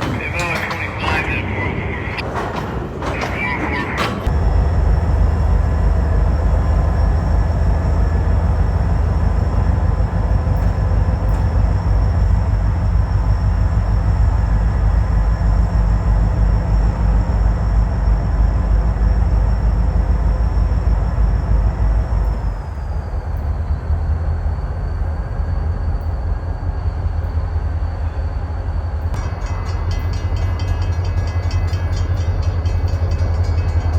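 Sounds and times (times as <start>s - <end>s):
freight train rumbling by: 0.0s - 33.9s.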